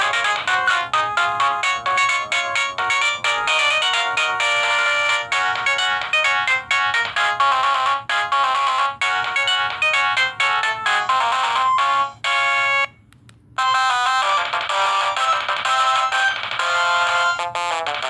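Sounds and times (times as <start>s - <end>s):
electronic phone ringtone: 0.0s - 13.0s, 13.6s - 18.0s.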